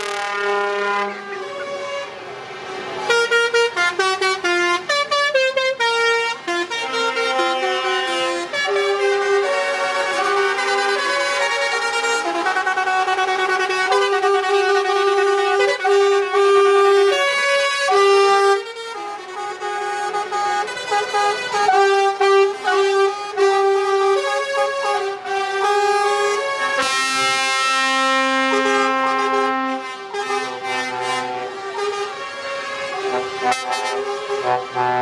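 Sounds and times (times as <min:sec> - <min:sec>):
horn playing a tune: 0:00.0 - 0:02.2, 0:03.0 - 0:35.0.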